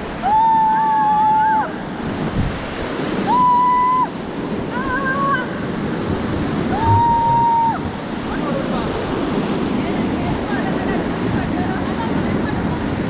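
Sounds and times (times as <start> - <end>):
whitewater rushing: 0.0 - 13.0
wind buffeting microphone: 1.7 - 13.0.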